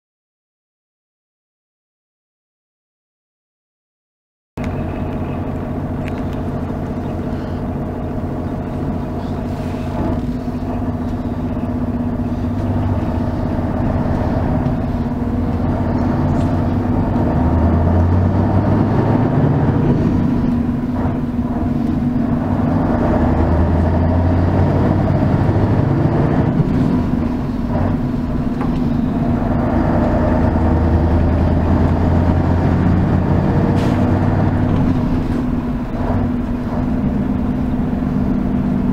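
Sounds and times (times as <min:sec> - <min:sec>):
bus diesel engine running: 0:04.6 - 0:38.9.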